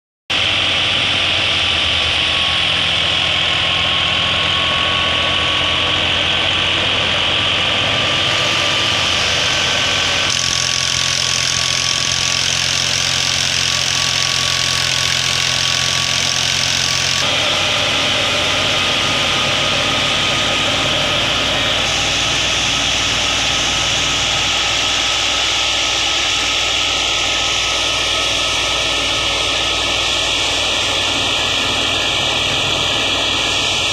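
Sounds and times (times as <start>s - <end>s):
diesel tractor engine running: 0.3s - 33.9s
thresher drum whirring: 0.3s - 33.9s.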